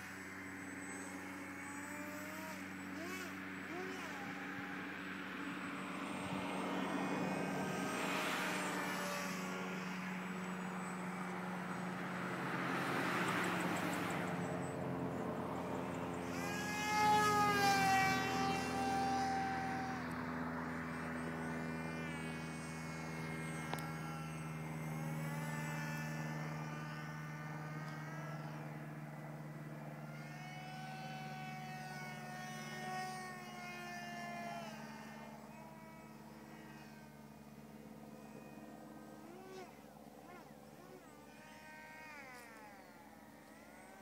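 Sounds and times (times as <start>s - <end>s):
model airplane motor whine: 0.0s - 44.0s.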